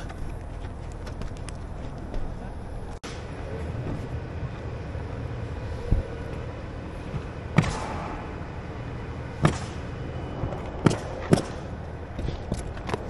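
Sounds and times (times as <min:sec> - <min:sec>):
low rumble: 0:01.5 - 0:13.0.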